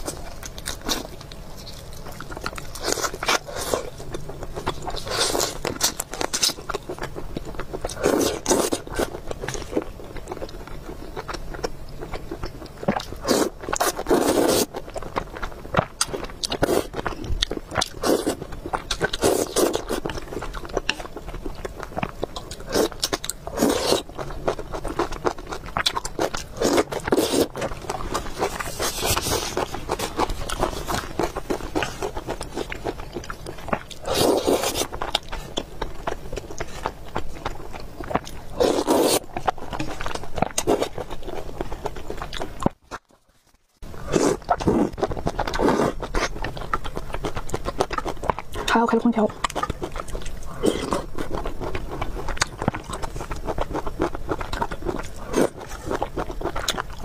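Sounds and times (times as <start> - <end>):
chewing and biting food: 0.0 - 57.0.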